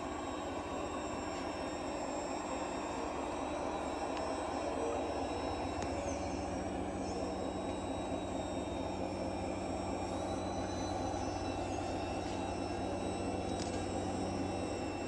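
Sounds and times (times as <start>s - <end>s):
electric motor and gears droning: 0.0s - 15.0s
high-pitched motor whine: 0.0s - 15.0s.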